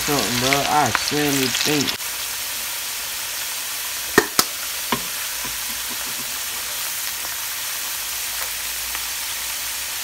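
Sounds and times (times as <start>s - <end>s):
potato wedges sizzling in hot oil: 0.0s - 10.0s.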